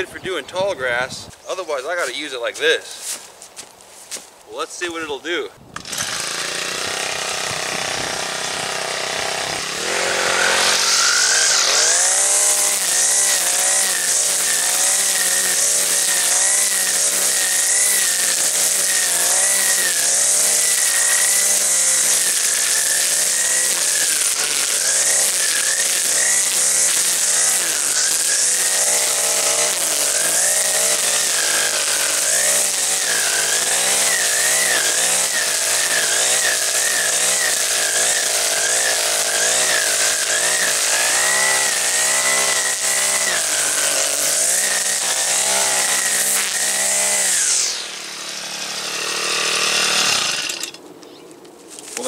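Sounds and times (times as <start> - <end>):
trimmer line cutting grass: 1.4 - 3.3, 4.8 - 50.9
string trimmer engine running: 5.7 - 50.8.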